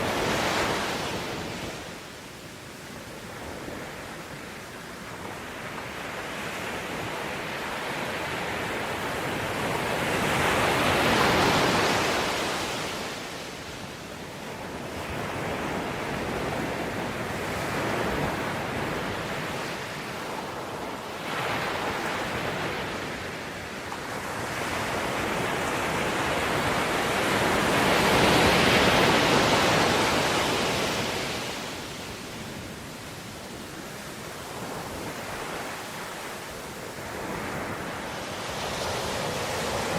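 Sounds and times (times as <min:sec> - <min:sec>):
ocean waves rushing in: 0:00.0 - 0:39.9.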